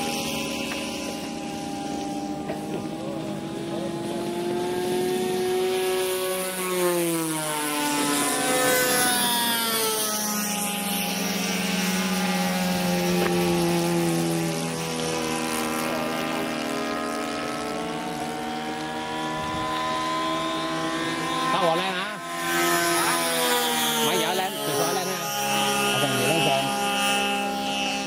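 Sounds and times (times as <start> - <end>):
model airplane engine at high revs: 0.0 - 28.0.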